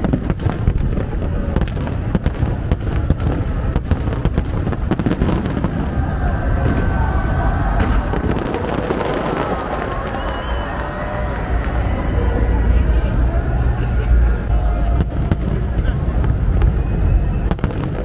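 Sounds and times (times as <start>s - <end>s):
crowd voices: 0.0s - 18.0s
fireworks bangs and crackles: 0.0s - 18.0s.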